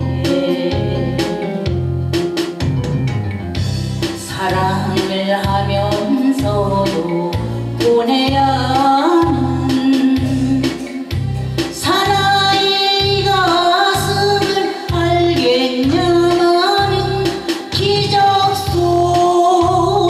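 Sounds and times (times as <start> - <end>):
woman singing into microphone: 0.0 - 1.8, 4.2 - 20.0
backing track with bass beat: 0.0 - 20.0.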